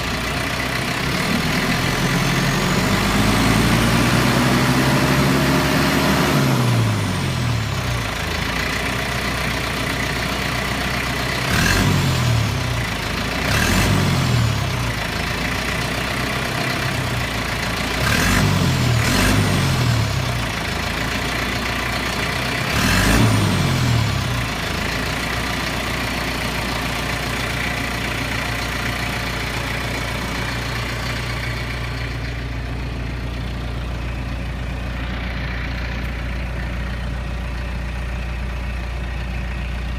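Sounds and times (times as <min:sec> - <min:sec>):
tractor diesel engine revving: 0:00.0 - 0:39.9.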